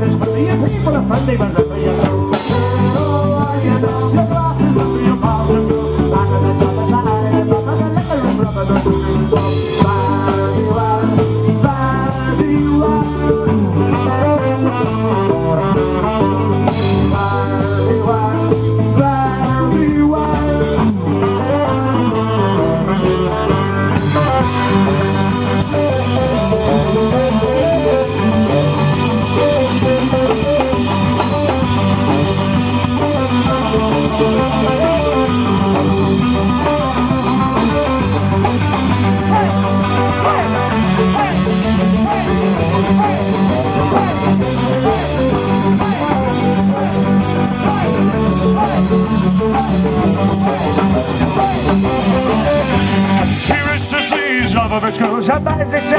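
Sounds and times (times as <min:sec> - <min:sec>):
bass notes: 0:00.0 - 0:55.9
drum kit: 0:00.0 - 0:55.9
electric guitar: 0:00.0 - 0:55.9.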